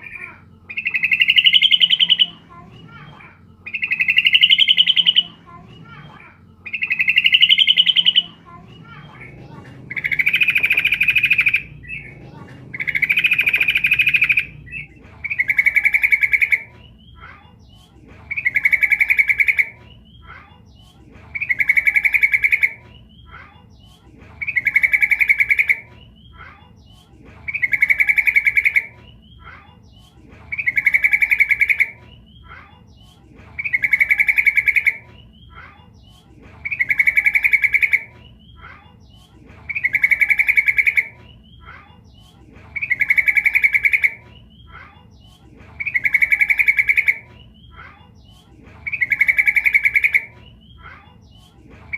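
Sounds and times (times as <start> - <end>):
bird trilled chattering call: 0.0 - 3.0, 3.7 - 6.0, 6.6 - 17.4, 18.3 - 20.4, 21.4 - 23.4, 24.4 - 26.5, 27.5 - 29.6, 30.5 - 32.6, 33.6 - 36.0, 36.6 - 45.2, 45.8 - 51.9
faint bird chirps: 0.0 - 51.9.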